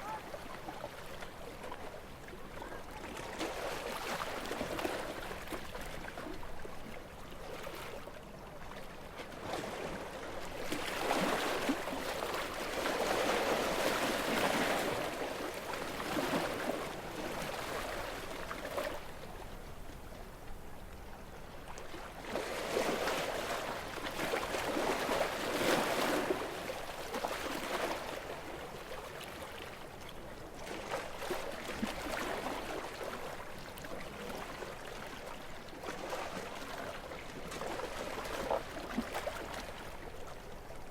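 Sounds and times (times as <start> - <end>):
gentle sea waves washing: 0.0 - 40.9.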